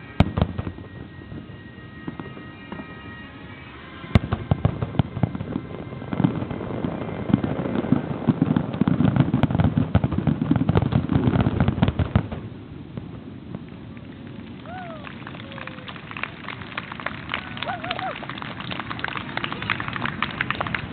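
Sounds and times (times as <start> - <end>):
fireworks bangs and crackles: 0.0 - 20.9.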